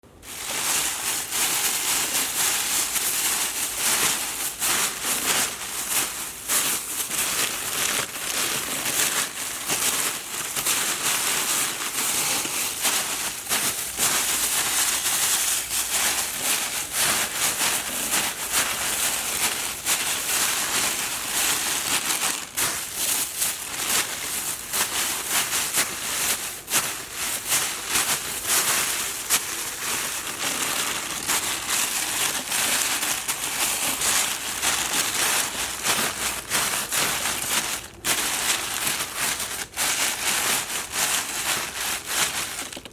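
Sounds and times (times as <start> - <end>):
plastic bag crinkling: 0.1 - 42.9.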